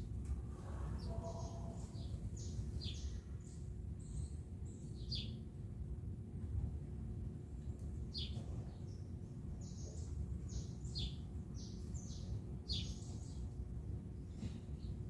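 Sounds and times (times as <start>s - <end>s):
steady low hum: 0.0s - 15.0s
small birds chirping: 0.2s - 5.5s, 7.7s - 15.0s.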